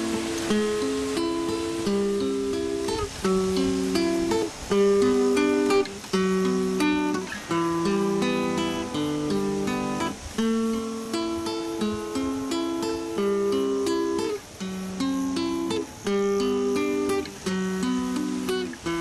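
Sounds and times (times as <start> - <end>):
acoustic guitar melody: 0.0 - 19.0.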